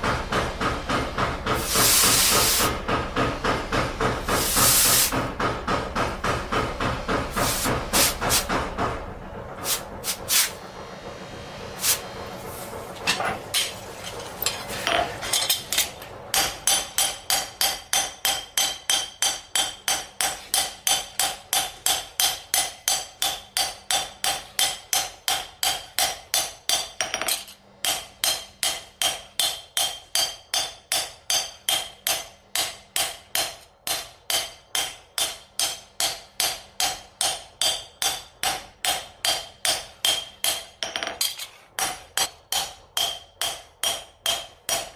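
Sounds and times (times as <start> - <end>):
hammer striking steel: 0.0 - 9.0, 13.0 - 44.9.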